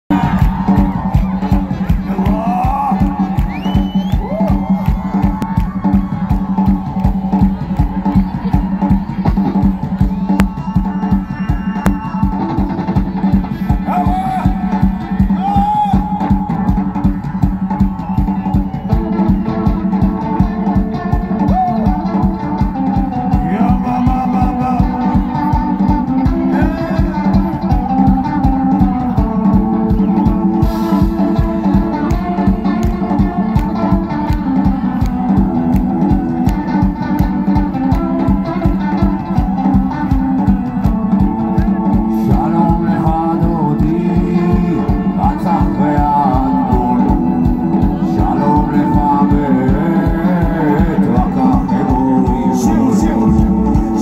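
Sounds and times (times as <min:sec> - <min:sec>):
drum beat: 0:00.0 - 0:54.0
guitar: 0:00.0 - 0:54.0.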